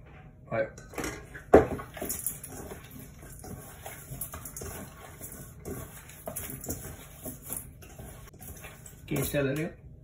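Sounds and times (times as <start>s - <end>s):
food and dishes handling: 0.8s - 9.4s.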